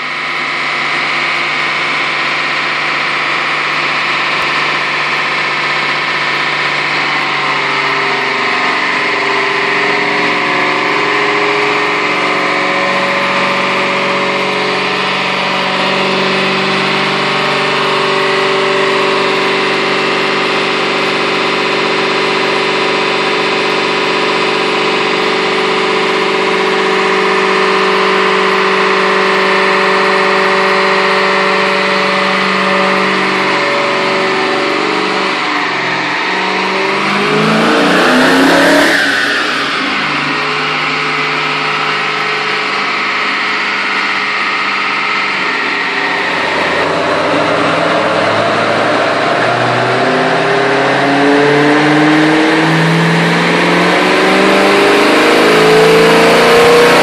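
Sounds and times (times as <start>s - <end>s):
car engine running near idle: 0.0s - 57.0s.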